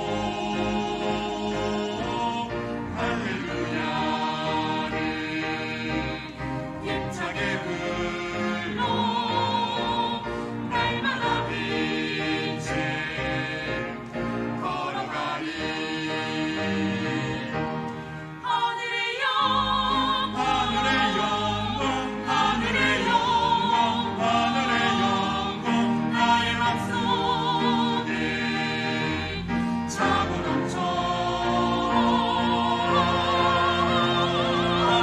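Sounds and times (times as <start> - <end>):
choir singing a hymn: 0.0 - 35.0
piano accompaniment: 0.0 - 35.0.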